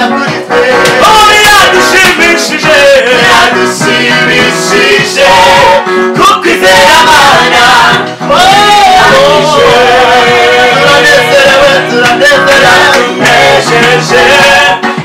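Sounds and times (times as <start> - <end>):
gospel choir singing: 0.0 - 15.0.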